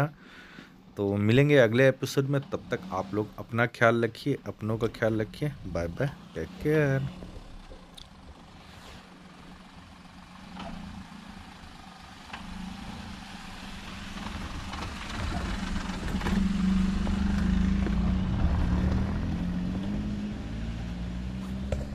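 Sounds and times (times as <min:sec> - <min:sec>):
car engine hum: 0:00.2 - 0:21.9
tyre noise on dirt road: 0:04.2 - 0:21.9.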